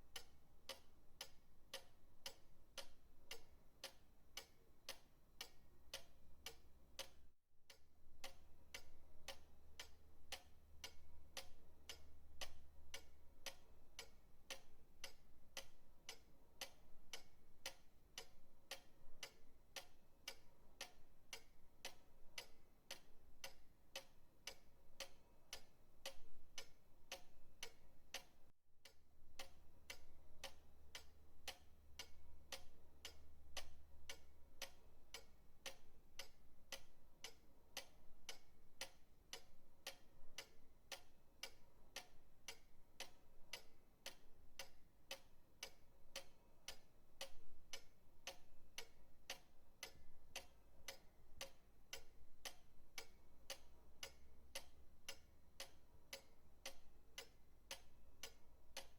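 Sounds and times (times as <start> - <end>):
pendulum clock ticking: 0.0 - 58.9.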